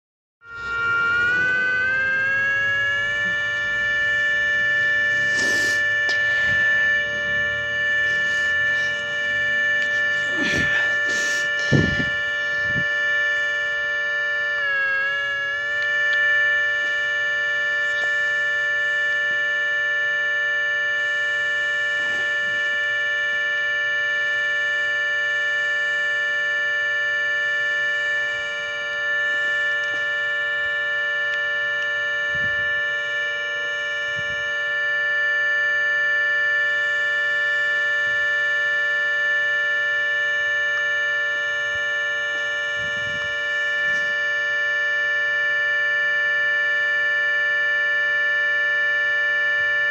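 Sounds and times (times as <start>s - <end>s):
warning siren steady chord: 0.4s - 49.9s.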